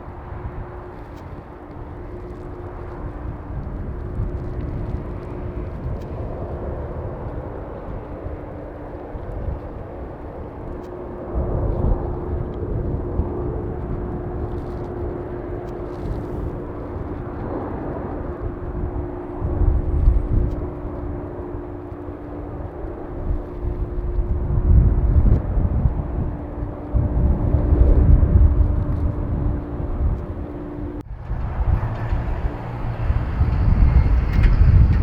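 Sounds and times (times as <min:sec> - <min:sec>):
jet engines whining at taxi thrust: 0:00.0 - 0:35.0.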